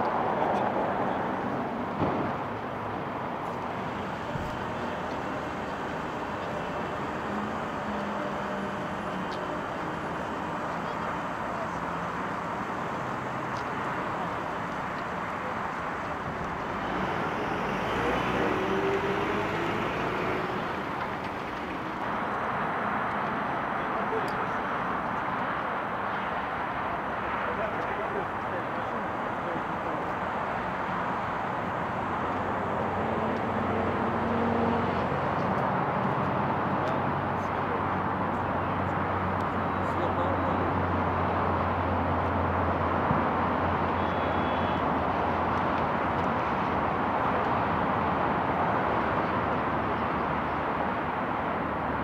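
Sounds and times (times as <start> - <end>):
distant traffic hum: 0.0 - 52.0.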